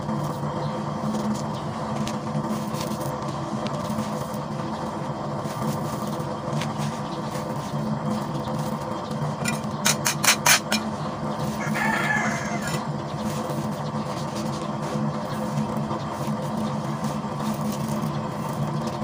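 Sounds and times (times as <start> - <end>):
hands scraping dry soil and gravel: 0.0 - 19.0
steady hum: 0.0 - 19.0.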